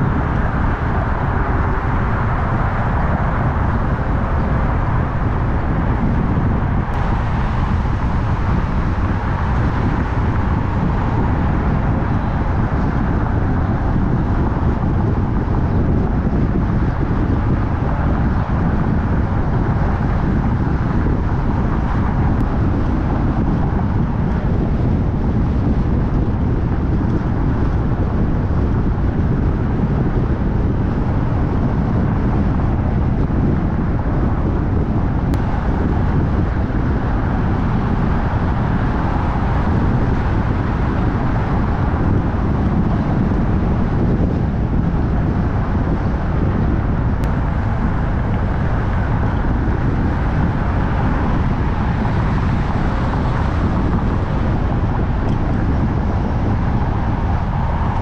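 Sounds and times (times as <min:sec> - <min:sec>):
car driving rumble: 0:00.0 - 0:58.0
road and wind noise: 0:00.0 - 0:58.0.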